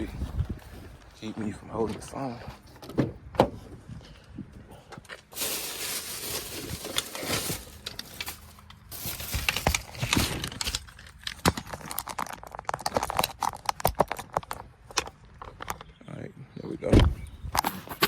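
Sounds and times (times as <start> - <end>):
rustling and crinkling: 0.0 - 15.9.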